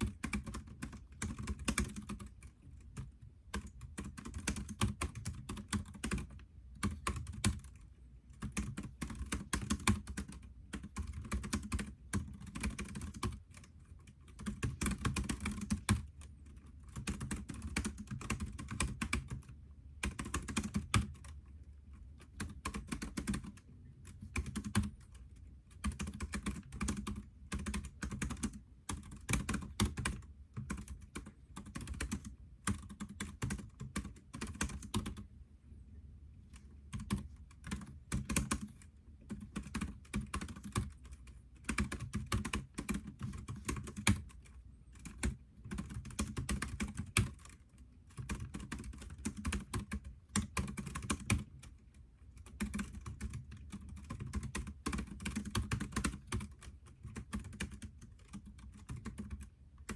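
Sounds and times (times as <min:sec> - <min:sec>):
typing on computer keyboard: 0:00.0 - 0:35.3, 0:36.5 - 0:59.9.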